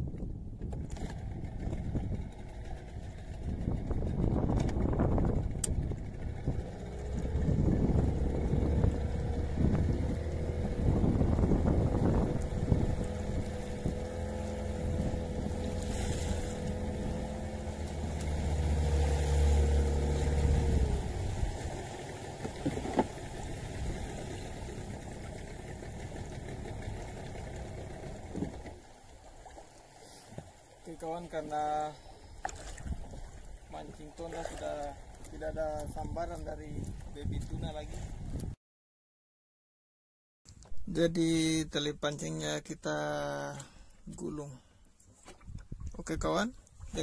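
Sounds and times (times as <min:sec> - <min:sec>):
water noise: 0:00.0 - 0:38.6, 0:40.5 - 0:47.0
wind: 0:00.0 - 0:38.6, 0:40.5 - 0:47.0
boat motor running: 0:00.6 - 0:38.5.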